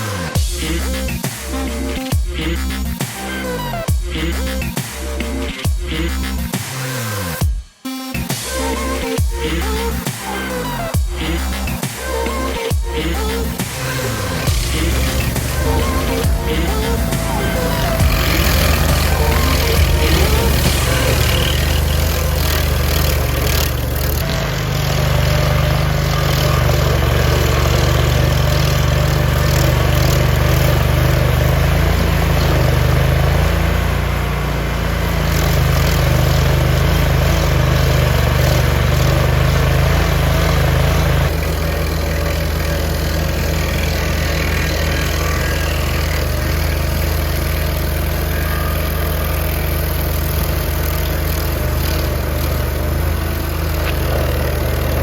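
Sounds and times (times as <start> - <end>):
large engine droning: 0.0 - 7.4, 8.2 - 55.0.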